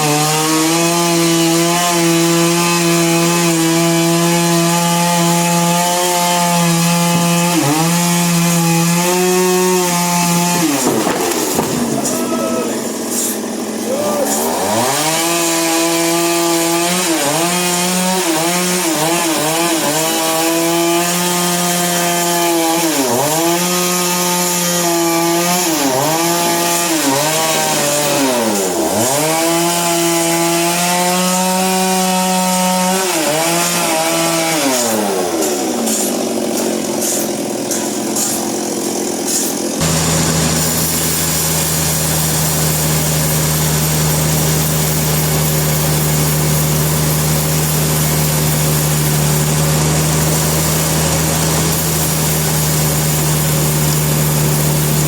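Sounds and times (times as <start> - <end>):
engine saw cutting timber: 0.0 - 55.0.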